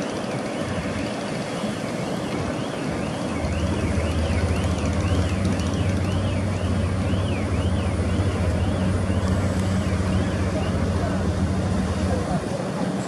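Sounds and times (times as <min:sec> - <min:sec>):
ferry engine hum: 0:00.0 - 0:13.0
wake water wash: 0:00.0 - 0:13.0.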